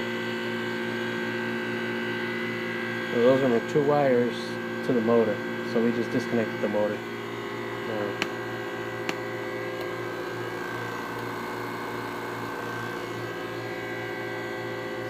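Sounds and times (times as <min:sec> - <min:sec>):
electrical hum of equipment: 0:00.0 - 0:15.0.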